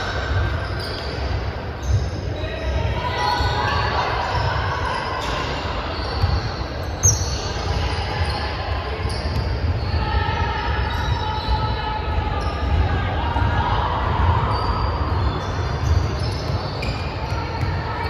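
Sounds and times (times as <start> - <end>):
low hall rumble: 0.0 - 18.0
sneakers squeaking: 0.0 - 18.0.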